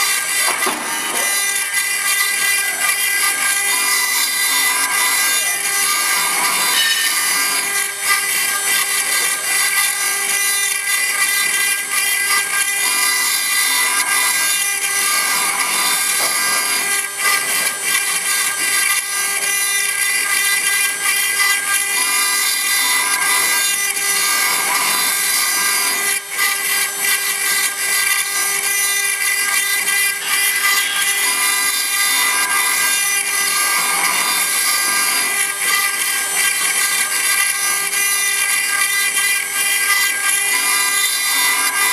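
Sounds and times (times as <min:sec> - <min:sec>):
cutter carving stone: 0:00.0 - 0:41.9
router spindle whine: 0:00.0 - 0:41.9.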